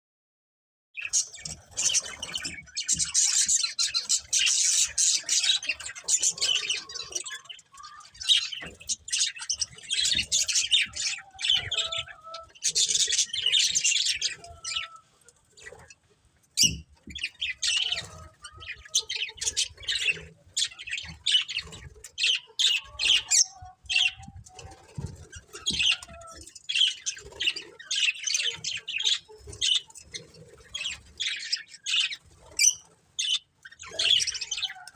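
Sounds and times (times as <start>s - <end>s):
budgerigars chattering and chirping: 1.0s - 34.9s.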